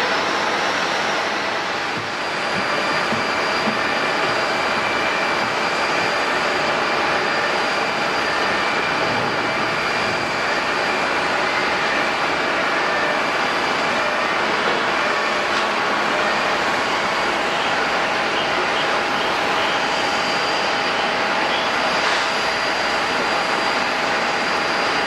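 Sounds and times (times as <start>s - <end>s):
high whining tones: 0.0s - 25.0s
jet engines running: 0.0s - 25.0s.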